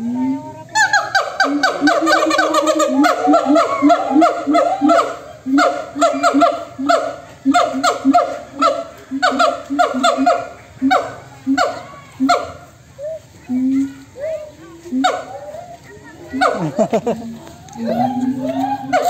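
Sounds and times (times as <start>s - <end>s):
gibbons calling in chorus: 0.0s - 19.0s.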